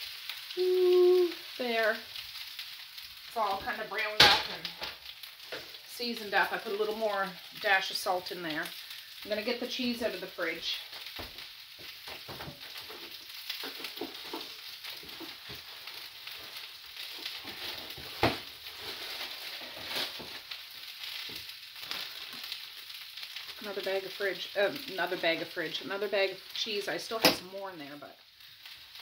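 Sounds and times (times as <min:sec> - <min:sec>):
food sizzling in frying pans: 0:00.0 - 0:29.0.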